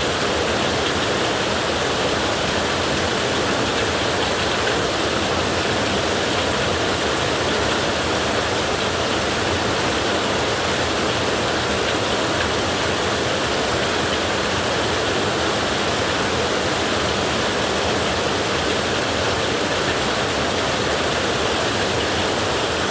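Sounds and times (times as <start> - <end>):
heavy rain on a tin roof: 0.0 - 22.9.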